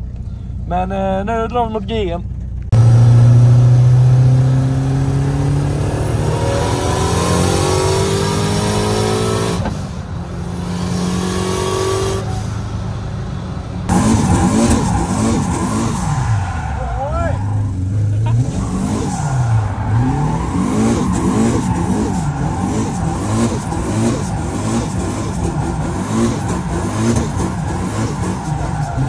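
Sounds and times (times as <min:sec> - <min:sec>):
car engine revving: 0:02.5 - 0:29.0.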